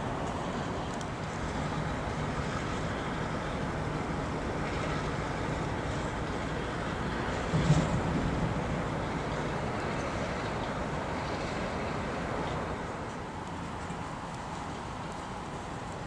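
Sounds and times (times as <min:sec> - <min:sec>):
steel wheels rumbling on track: 0:00.0 - 0:16.0.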